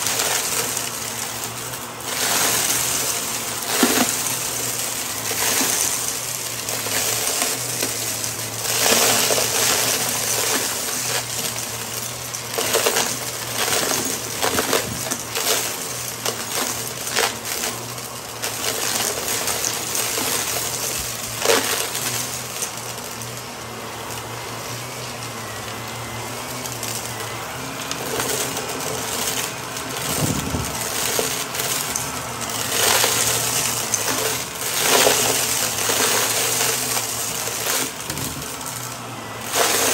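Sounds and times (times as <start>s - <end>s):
vacuum crunching and rattling debris: 0.0s - 39.9s
vacuum motor hum: 0.0s - 39.9s.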